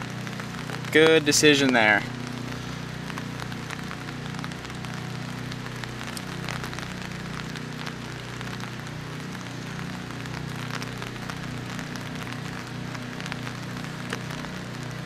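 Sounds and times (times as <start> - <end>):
low steady hum: 0.0 - 15.0
rain falling: 0.0 - 15.0
raindrops ticking: 0.0 - 15.0.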